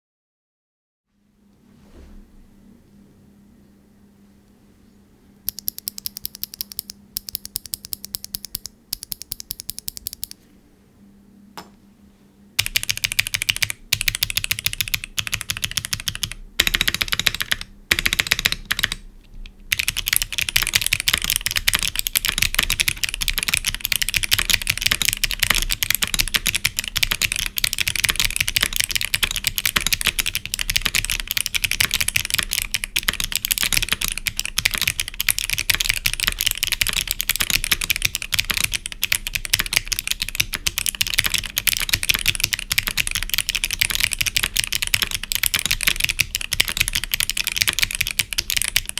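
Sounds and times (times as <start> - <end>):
mechanical keyboard clicking: 5.5 - 10.4, 12.6 - 48.9.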